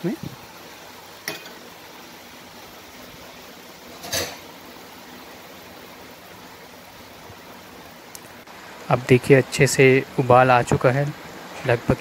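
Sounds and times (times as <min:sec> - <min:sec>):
pot simmering with low hiss: 0:00.0 - 0:12.0.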